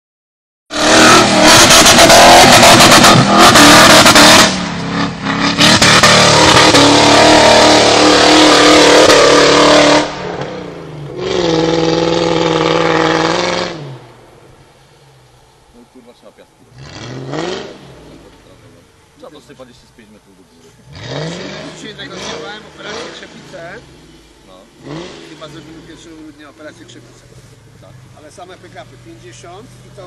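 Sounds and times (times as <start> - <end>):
off-road engine revving hard: 0.7 - 14.2, 16.6 - 19.8, 20.7 - 30.0.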